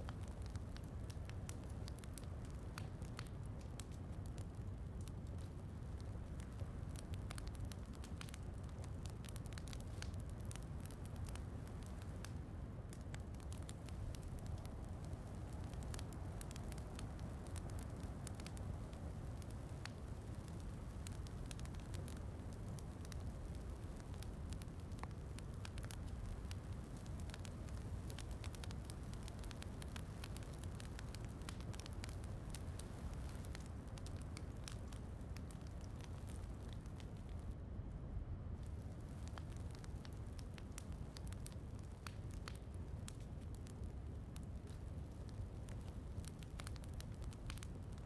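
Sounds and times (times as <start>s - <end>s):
wood fire crackling: 0.0s - 37.8s, 38.6s - 48.0s.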